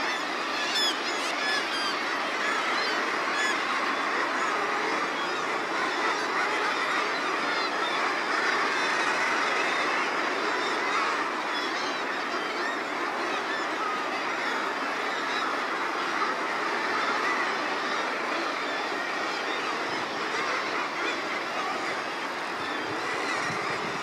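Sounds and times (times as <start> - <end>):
seabird colony calling: 0.0 - 24.0.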